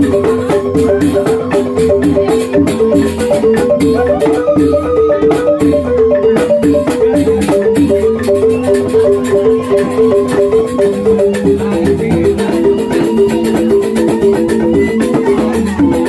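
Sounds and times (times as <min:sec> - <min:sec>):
bamboo xylophones playing: 0:00.0 - 0:16.0
sharp percussion strikes: 0:00.0 - 0:16.0.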